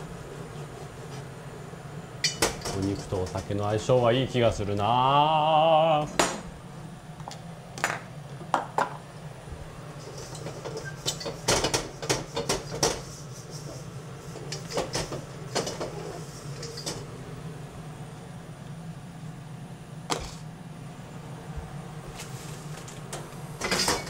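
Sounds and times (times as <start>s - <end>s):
range hood fan humming: 0.0s - 24.0s.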